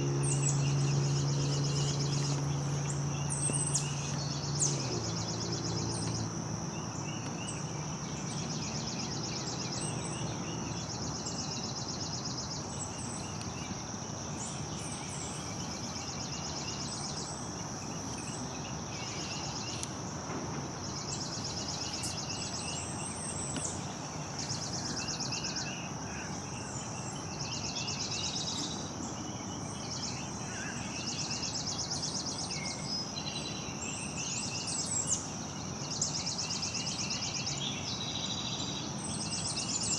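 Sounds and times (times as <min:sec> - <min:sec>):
insects trilling: 0:00.0 - 0:39.9
outdoor background hum: 0:00.0 - 0:39.9.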